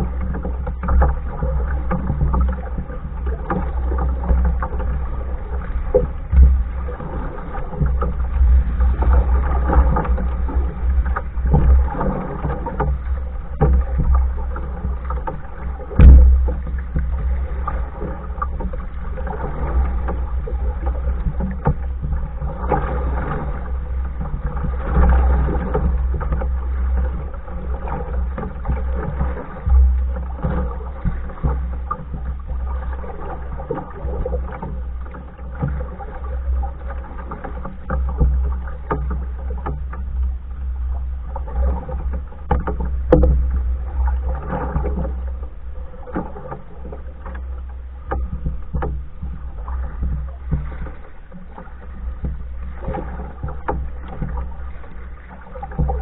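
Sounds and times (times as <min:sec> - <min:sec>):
constant low rumble: 0:00.0 - 0:56.0
paddle pulling through water: 0:00.0 - 0:56.0.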